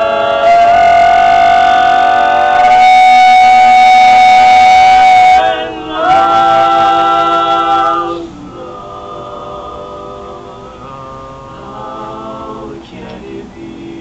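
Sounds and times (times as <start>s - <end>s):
a cappella group singing chords: 0.0s - 14.0s
higher voice singing: 0.0s - 14.0s.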